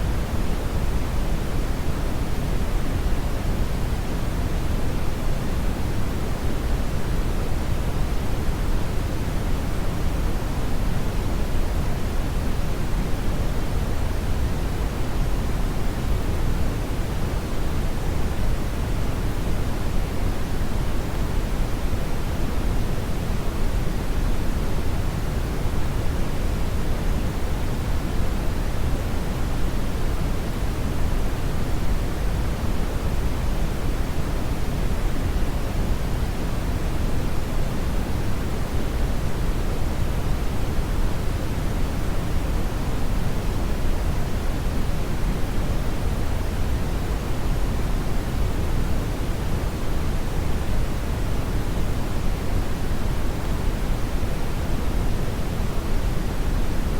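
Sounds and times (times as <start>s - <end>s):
brown noise hiss: 0.0s - 56.9s.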